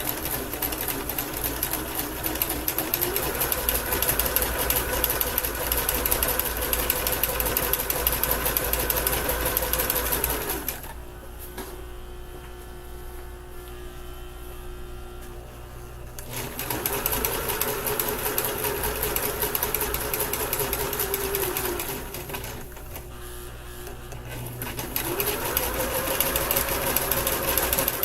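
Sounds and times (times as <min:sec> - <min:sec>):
electric sewing machine stitching: 0:00.0 - 0:11.0, 0:16.2 - 0:28.0.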